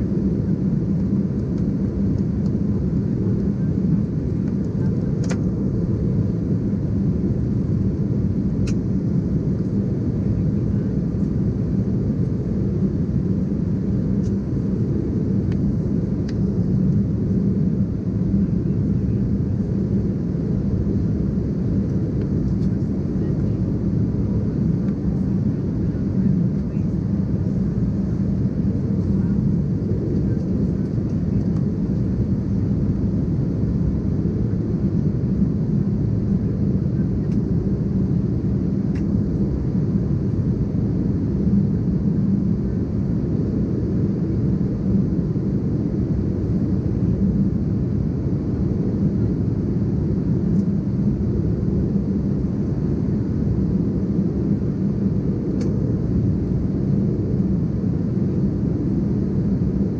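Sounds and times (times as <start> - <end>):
airliner cabin drone: 0.0 - 59.9
jet engines and rushing airflow: 0.0 - 59.9.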